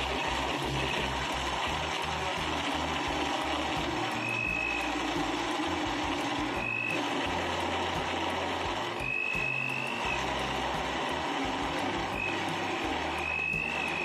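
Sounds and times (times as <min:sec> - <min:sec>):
blender running: 0:00.0 - 0:14.0.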